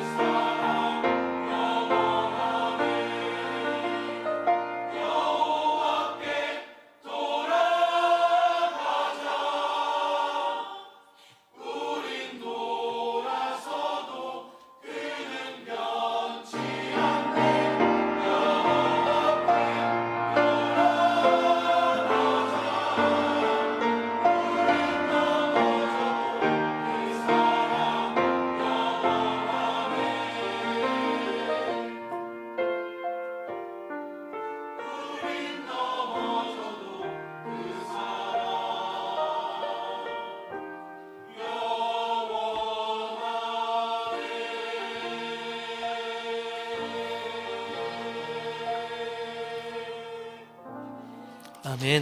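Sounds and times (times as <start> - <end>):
church choir singing: 0.0 - 52.0.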